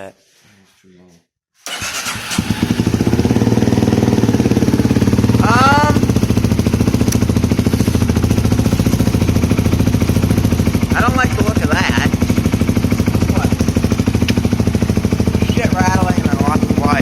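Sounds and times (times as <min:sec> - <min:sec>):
atv engine running: 0:01.7 - 0:17.0.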